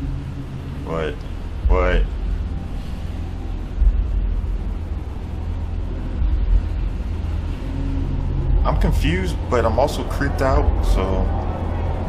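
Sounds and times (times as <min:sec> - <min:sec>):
deep low rumble: 0:00.0 - 0:12.0.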